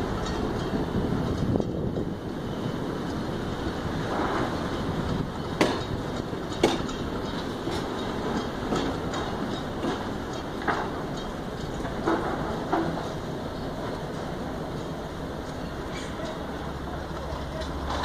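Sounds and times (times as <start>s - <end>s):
train wheels rumbling: 0.0s - 18.0s
wheels clacking over rail joints: 0.0s - 18.0s.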